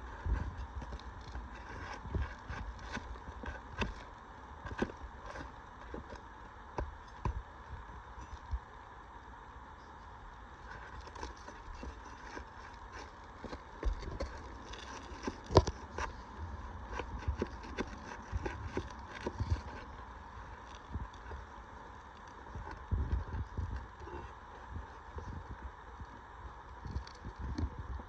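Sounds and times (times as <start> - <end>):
clicks taps and scrapes of shingles: 0.0 - 7.5, 10.6 - 28.0.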